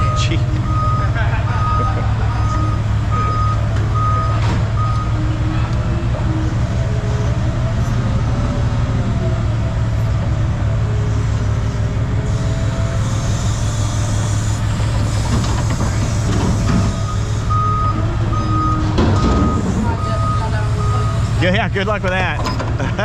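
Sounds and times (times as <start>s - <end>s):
heavy vehicle engine humming: 0.0s - 23.0s.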